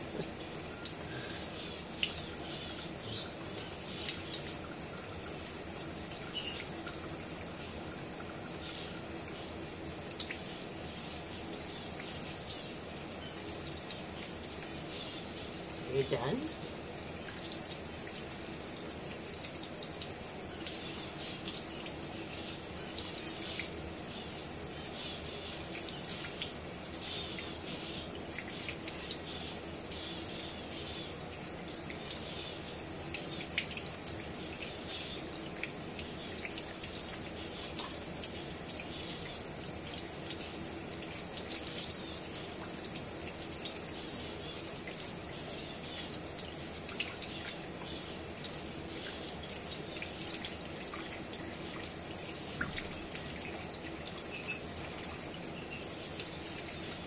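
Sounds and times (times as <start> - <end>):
faucet running thin stream: 0.0 - 57.0
water splashing and dripping: 0.0 - 57.0.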